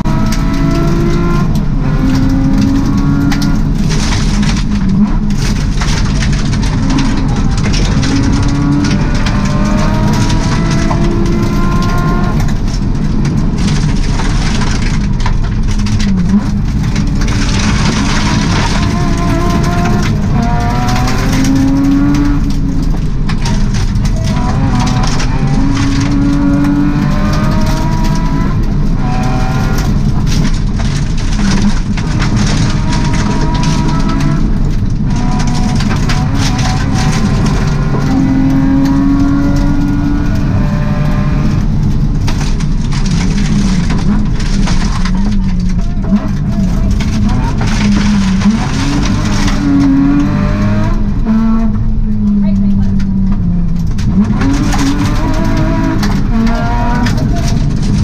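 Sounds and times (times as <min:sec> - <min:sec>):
rally car engine revving: 0:00.0 - 0:58.0
tyres rumbling on gravel: 0:00.0 - 0:58.0.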